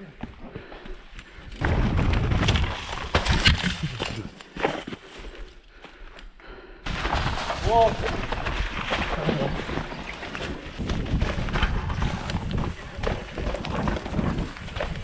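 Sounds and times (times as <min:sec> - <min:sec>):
bike rumbling over rough trail: 0:00.2 - 0:05.0, 0:06.9 - 0:15.0.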